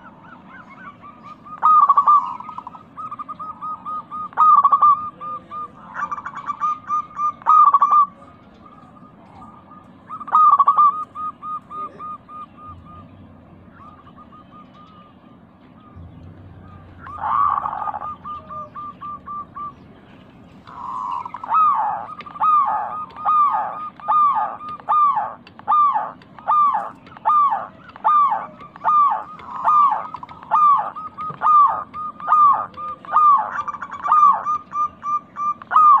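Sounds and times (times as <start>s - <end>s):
doves cooing: 0.0s - 36.0s.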